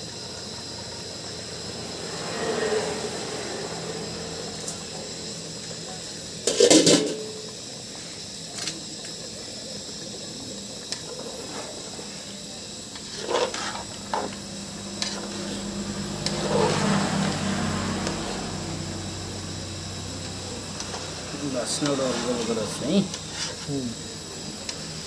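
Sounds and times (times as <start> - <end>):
curry sizzling in a pan: 0.0 - 25.0.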